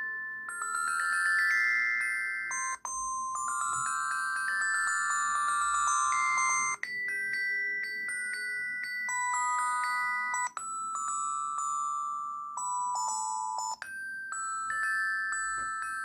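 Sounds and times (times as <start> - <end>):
polyphonic phone ringtone: 0.0 - 16.0.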